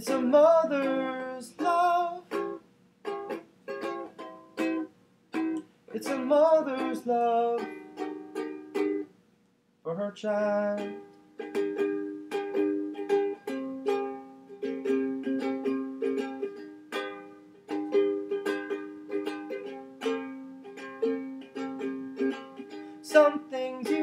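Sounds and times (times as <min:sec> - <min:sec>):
ukulele strumming chords: 0:00.0 - 0:09.1, 0:10.3 - 0:24.0.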